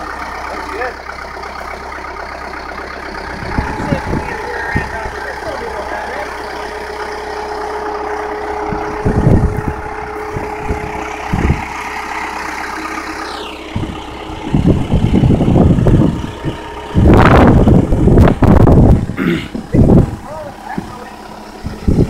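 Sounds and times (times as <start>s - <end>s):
truck engine running: 0.0s - 22.0s
falling whine: 1.6s - 22.0s
loud bursts of noise: 3.2s - 22.0s.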